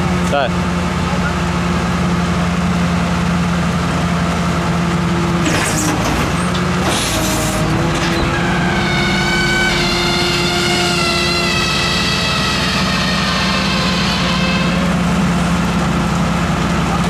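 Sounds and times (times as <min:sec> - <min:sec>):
truck engine humming: 0:00.0 - 0:17.0
steady multi-tone whine: 0:00.8 - 0:17.0.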